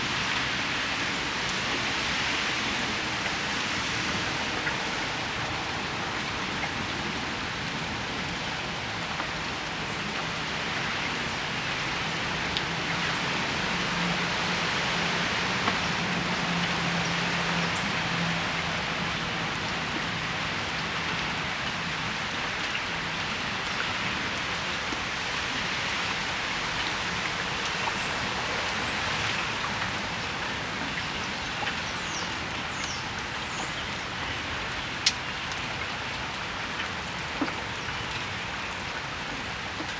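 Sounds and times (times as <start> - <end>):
rain falling on patio: 0.0 - 39.9
vehicle on wet street: 0.0 - 39.9.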